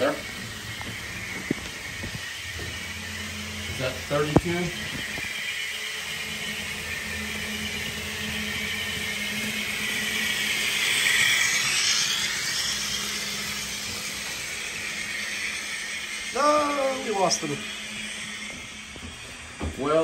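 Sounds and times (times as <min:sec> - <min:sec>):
electric motors whining: 0:00.0 - 0:20.0
wheels running on rails: 0:00.0 - 0:20.0.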